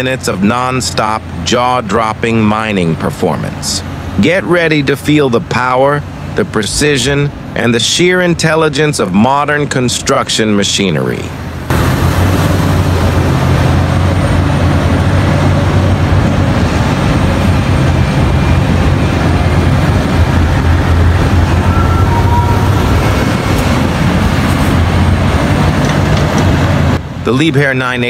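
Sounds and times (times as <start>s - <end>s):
excavator diesel engine droning: 0.0s - 27.6s.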